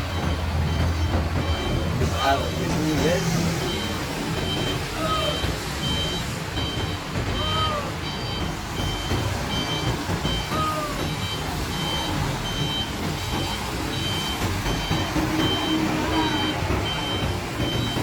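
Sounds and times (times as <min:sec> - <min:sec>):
bus engine rumble: 0:00.0 - 0:18.0
reversing alarm beeping: 0:00.0 - 0:18.0.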